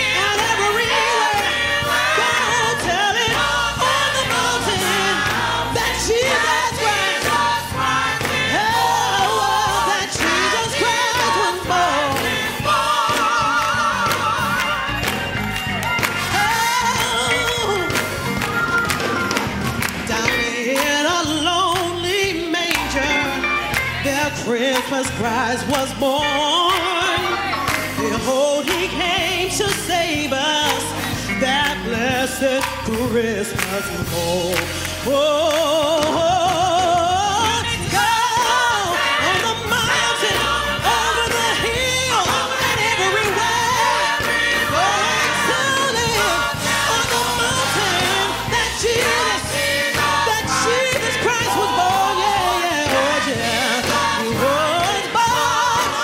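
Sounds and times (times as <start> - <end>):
woman singing gospel: 0.0 - 15.2, 16.0 - 19.0, 20.0 - 56.0
keyboard accompaniment: 0.0 - 56.0.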